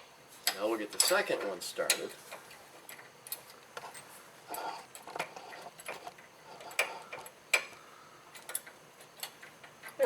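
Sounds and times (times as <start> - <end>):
bolt clicking and scraping in metal: 0.4 - 10.0.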